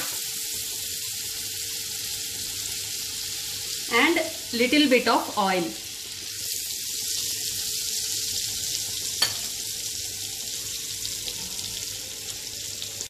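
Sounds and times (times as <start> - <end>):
butter sizzling in a wok: 0.0 - 13.0.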